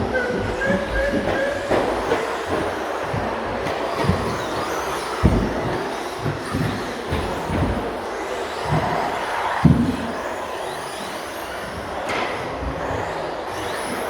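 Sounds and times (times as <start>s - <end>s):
toy truck motor whine and tyres: 0.0s - 14.0s.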